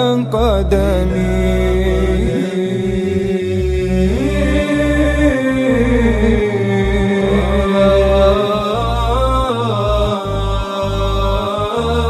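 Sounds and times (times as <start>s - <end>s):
low drone: 0.0s - 12.0s
person chanting melismatic devotional song: 0.0s - 12.0s.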